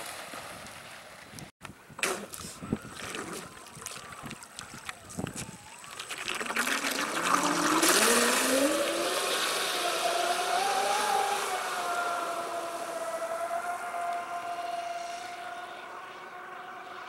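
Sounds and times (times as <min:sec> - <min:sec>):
boat motors whining: 0:02.3 - 0:17.0.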